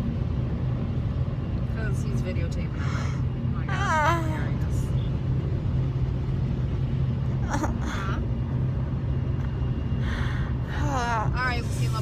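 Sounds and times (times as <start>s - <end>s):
car cabin engine and road noise: 0.0s - 12.0s.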